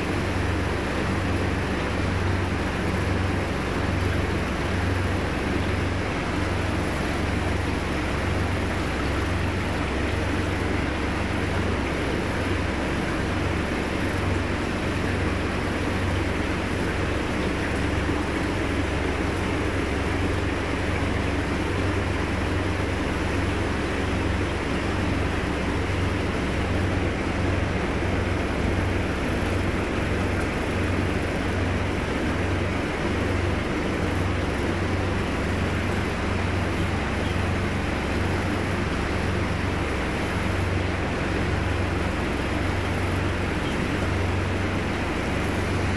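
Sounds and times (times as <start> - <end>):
aquarium pump mains hum: 0.0 - 45.9
constant hiss: 0.0 - 45.9
rushing water: 0.0 - 45.9.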